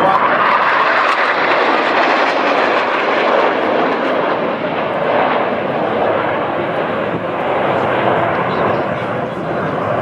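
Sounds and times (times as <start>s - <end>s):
fighter jets roaring: 0.0s - 10.0s.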